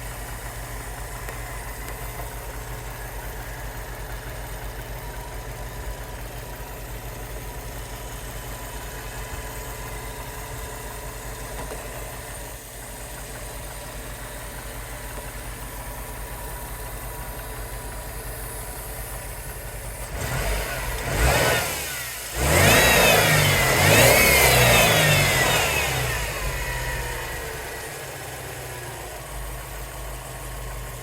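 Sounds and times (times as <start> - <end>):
engine idling and revving: 0.0 - 31.0.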